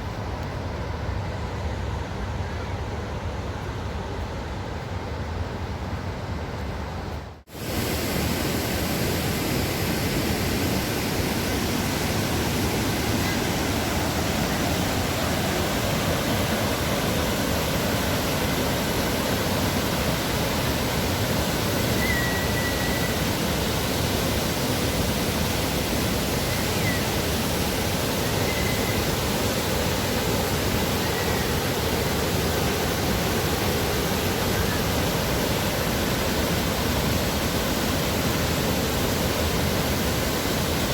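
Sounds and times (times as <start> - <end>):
waterfall pouring into canal: 7.5 - 40.9.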